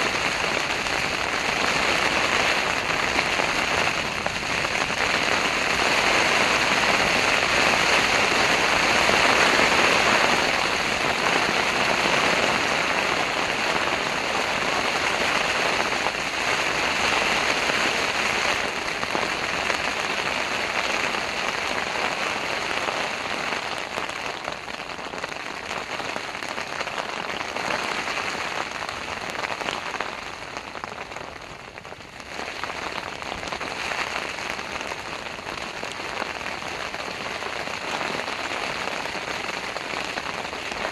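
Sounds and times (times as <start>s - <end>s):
heavy rain on tent fabric: 0.0s - 40.9s.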